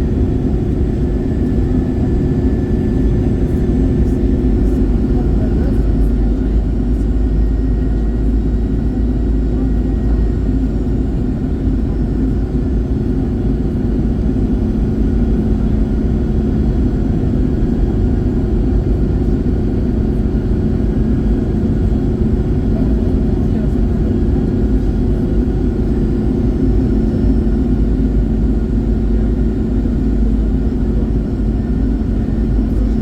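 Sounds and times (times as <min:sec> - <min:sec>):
constant droning hum: 0:00.0 - 0:33.0
jet engines and airflow rumble: 0:00.0 - 0:33.0.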